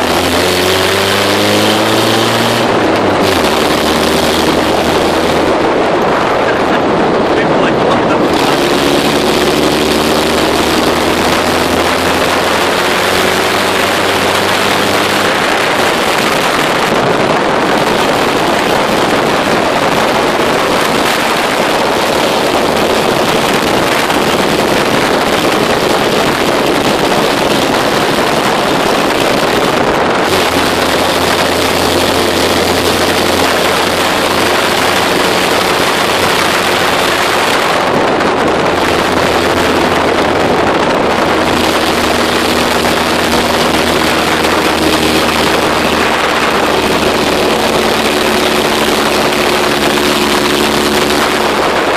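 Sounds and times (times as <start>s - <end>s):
car engine running: 0.0s - 51.9s
wind noise on microphone: 0.0s - 51.9s.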